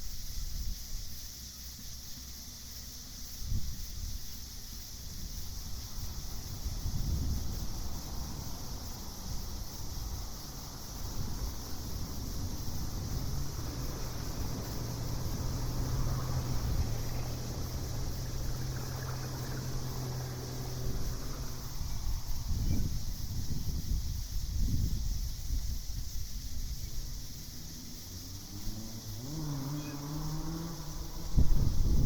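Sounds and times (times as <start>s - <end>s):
steady high hiss: 0.0s - 32.0s
low wind-like rumble: 2.5s - 29.2s, 29.8s - 32.0s.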